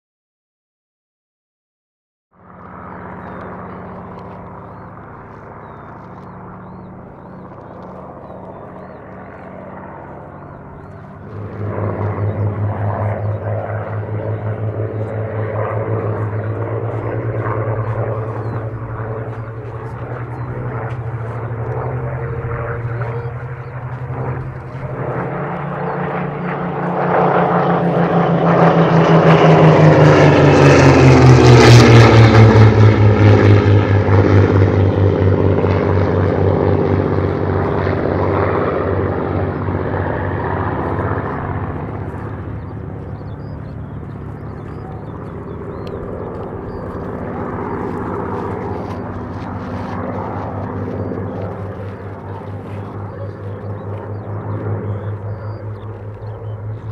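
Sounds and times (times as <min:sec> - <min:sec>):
propeller planes droning past: 0:02.3 - 0:56.9.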